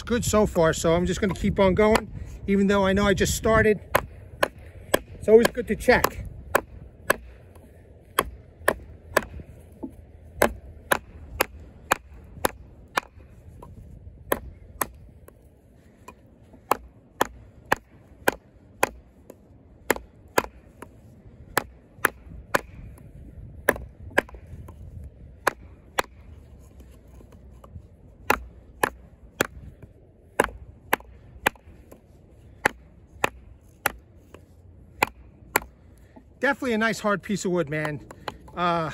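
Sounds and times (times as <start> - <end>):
knife chopping into wood: 1.2 - 2.2, 3.3 - 35.9.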